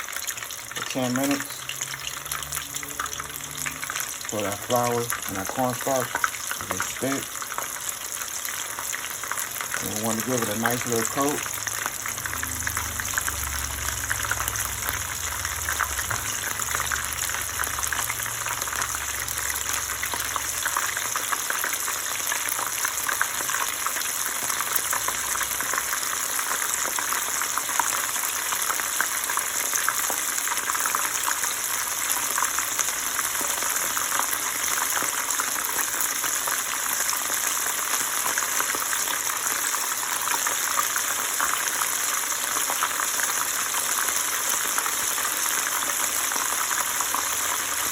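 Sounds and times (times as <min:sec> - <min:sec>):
food frying in hot oil: 0:00.0 - 0:47.9.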